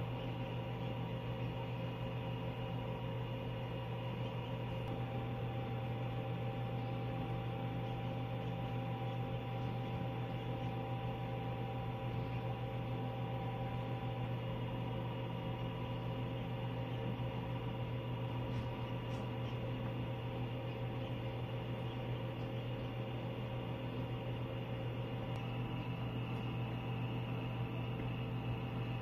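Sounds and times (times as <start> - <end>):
incubator fan humming: 0.0 - 29.0.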